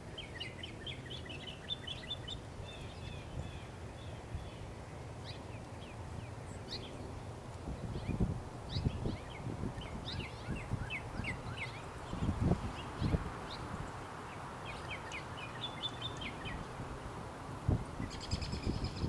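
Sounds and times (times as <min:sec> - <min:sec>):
low outdoor background: 0:00.0 - 0:19.0
songbirds chirping: 0:00.0 - 0:19.0.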